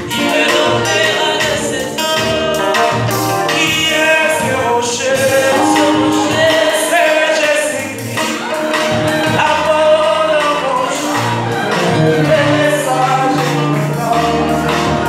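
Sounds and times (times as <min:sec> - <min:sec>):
bass guitar: 0:00.0 - 0:15.0
electric guitar: 0:00.0 - 0:15.0
people singing: 0:00.0 - 0:15.0.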